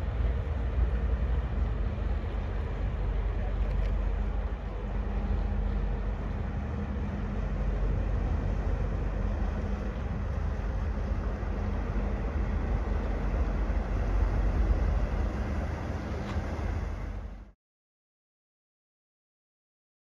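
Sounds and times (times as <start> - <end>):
water rushing from wake: 0.0 - 17.5
ferry engine rumble: 0.0 - 17.6.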